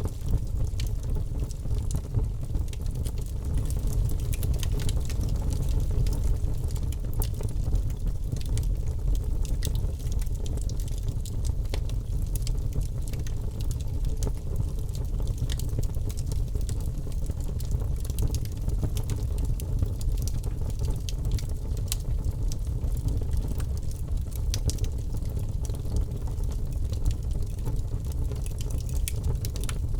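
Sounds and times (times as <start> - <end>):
burning wood crackling and popping: 0.0 - 29.9
low rumble of flames: 0.0 - 29.9.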